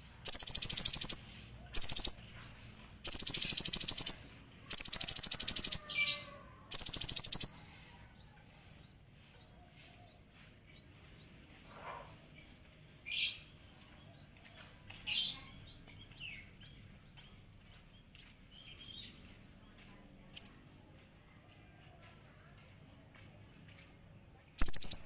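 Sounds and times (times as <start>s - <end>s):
soft bird chirps: 0.0s - 21.1s, 22.0s - 25.0s.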